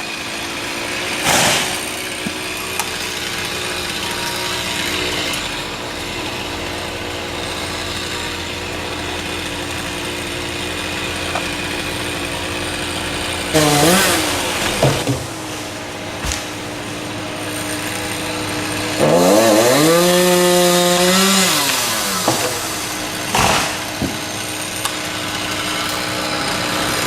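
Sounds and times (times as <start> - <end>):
chainsaw engine idling: 0.0 - 27.0.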